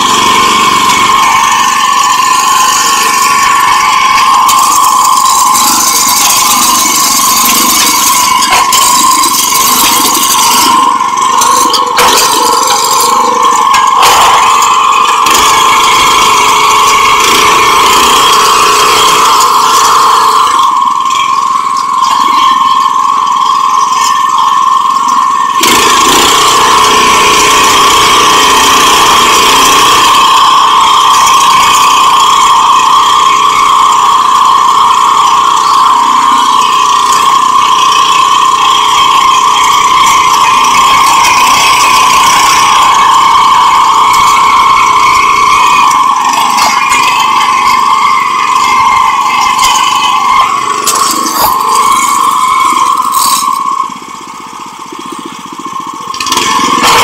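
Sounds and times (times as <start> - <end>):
mechanical rattle: 0.0 - 33.2, 34.0 - 57.0
tiller engine running: 0.0 - 57.0.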